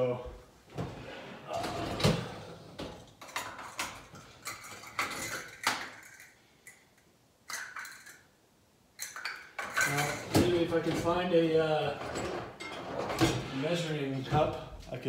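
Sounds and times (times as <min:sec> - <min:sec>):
kitchenware clinking and clattering: 0:01.5 - 0:13.9.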